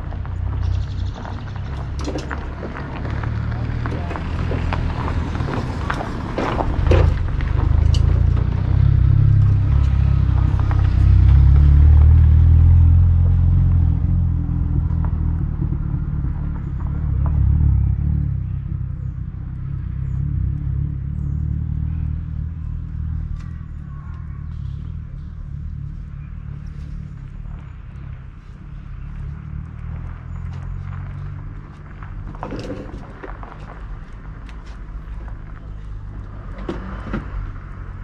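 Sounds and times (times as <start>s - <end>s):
deep low rumble: 0.0s - 36.6s.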